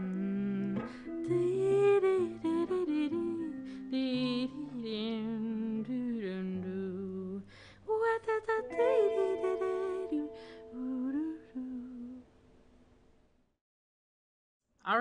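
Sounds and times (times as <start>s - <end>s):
held instrumental notes: 0.0s - 12.3s.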